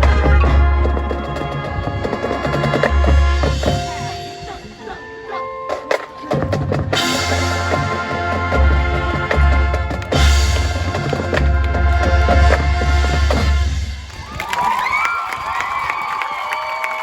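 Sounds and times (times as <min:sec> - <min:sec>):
marching band playing: 0:00.0 - 0:04.8, 0:05.6 - 0:14.4.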